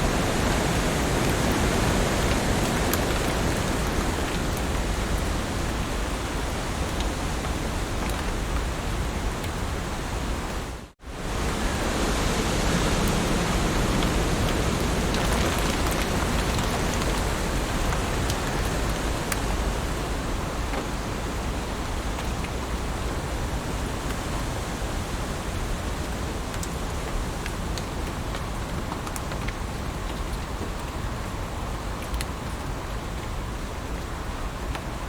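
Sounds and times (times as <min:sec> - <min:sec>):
heavy rain on leaves: 0:00.0 - 0:35.0.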